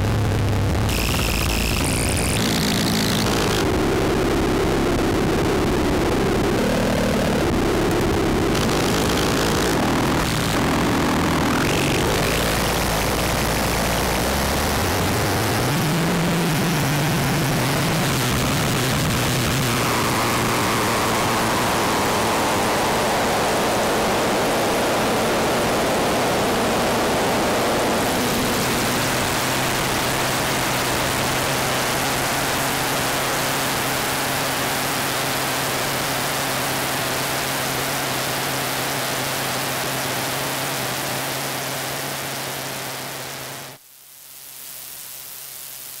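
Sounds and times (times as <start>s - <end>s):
harsh synth noise drone: 0.0s - 43.8s.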